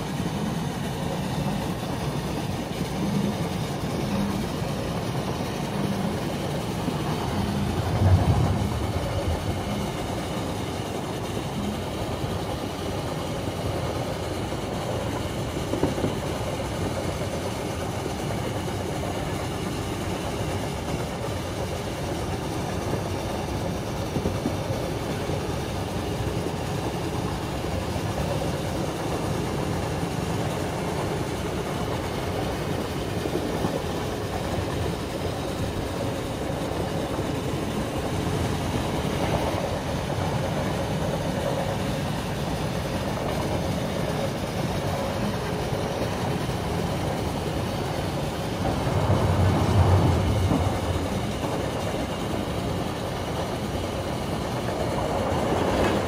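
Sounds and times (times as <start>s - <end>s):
train running on rails: 0.0s - 56.0s.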